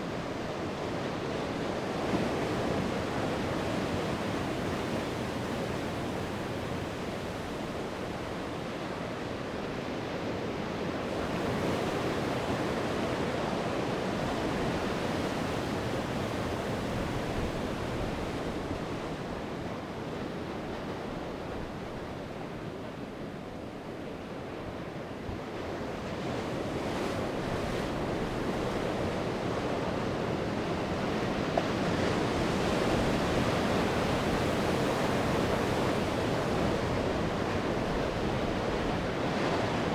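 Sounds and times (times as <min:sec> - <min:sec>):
sea waves breaking on shore: 0:00.0 - 0:39.9
wind: 0:00.0 - 0:39.9.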